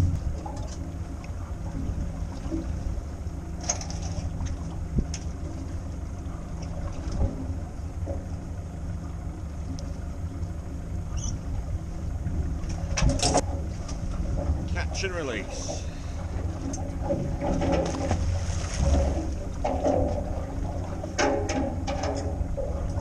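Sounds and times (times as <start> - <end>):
boat engine idling: 0.0 - 23.0.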